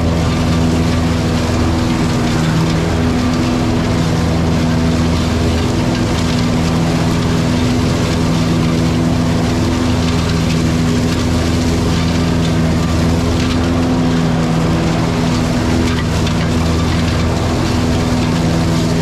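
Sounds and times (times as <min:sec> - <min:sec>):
mower engine droning: 0:00.0 - 0:19.0.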